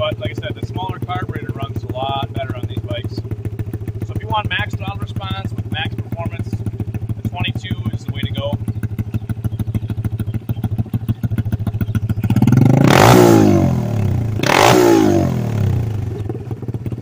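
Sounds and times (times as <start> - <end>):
motorbike engine idling and revving: 0.0 - 17.0.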